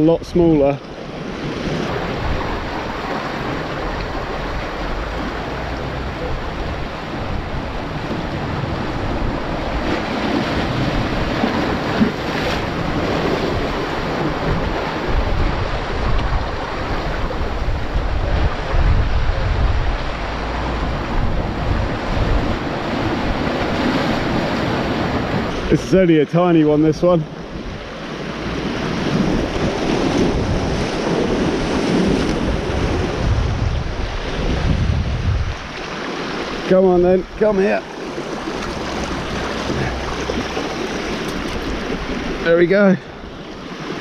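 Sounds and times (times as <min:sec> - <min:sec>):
surf breaking over rocks: 0:00.0 - 0:44.0
wind buffeting microphone: 0:00.0 - 0:44.0.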